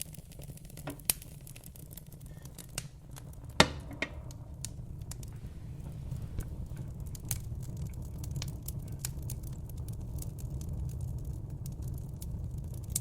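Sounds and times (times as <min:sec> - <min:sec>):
campfire crackling and popping: 0:00.0 - 0:13.0
steady low rumble: 0:01.8 - 0:13.0.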